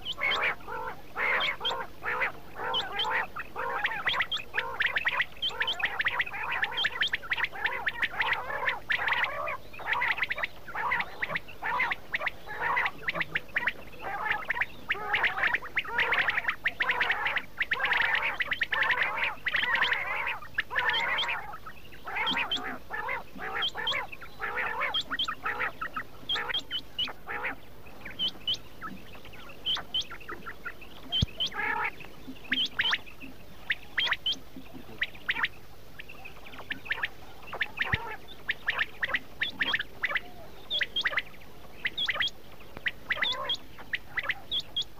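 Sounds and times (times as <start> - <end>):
quail calling: 0.0 - 44.9.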